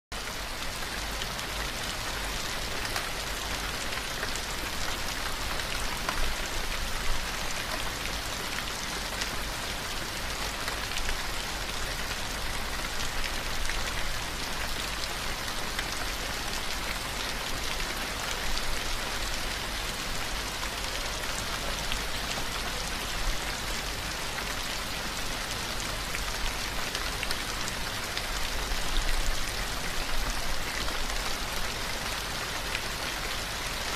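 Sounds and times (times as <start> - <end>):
steady rain hissing: 0.2 - 33.9.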